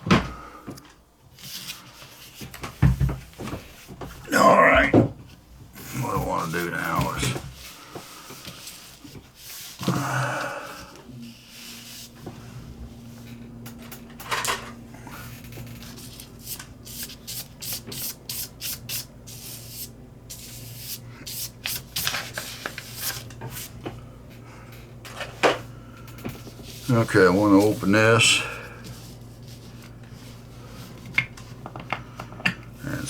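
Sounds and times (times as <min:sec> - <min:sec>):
steady low hum: 0:03.0 - 0:33.0.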